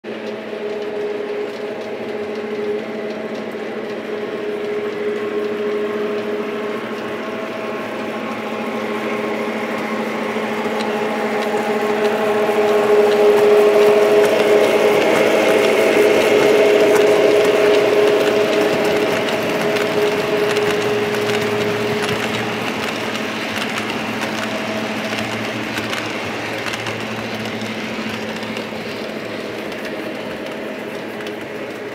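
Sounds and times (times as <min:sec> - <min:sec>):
model train motors humming: 0:00.0 - 0:31.9
train wheel clicks: 0:00.1 - 0:31.9.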